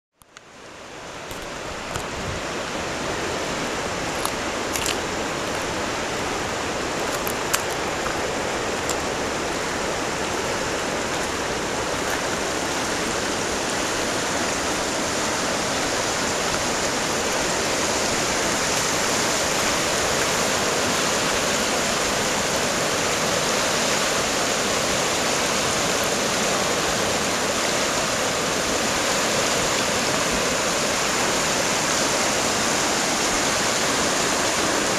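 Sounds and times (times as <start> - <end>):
floodwater rushing: 0.4 - 34.9.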